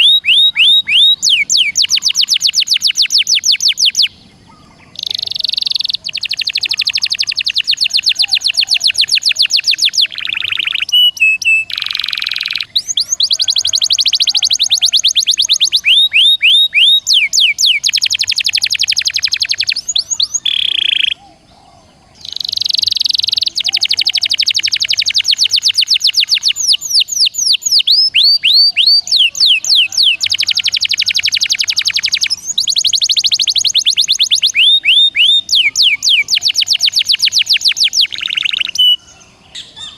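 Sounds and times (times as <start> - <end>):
songbird trills and whistles: 0.0 - 39.9.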